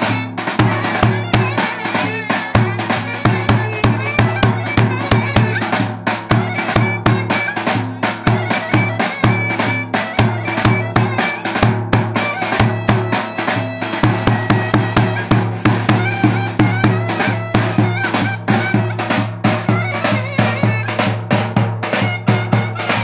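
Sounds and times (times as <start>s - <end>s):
fast drum beat: 0.0s - 23.0s
nasal reed melody: 0.0s - 23.0s.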